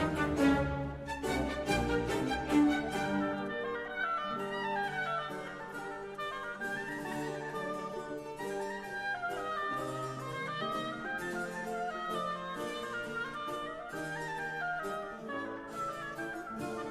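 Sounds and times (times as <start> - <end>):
orchestral music: 0.0 - 16.9.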